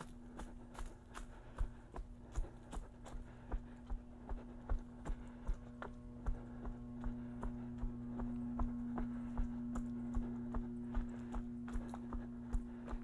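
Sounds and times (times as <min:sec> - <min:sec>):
jogging footsteps on pavement: 0:00.0 - 0:13.0
low electrical hum: 0:00.0 - 0:13.0.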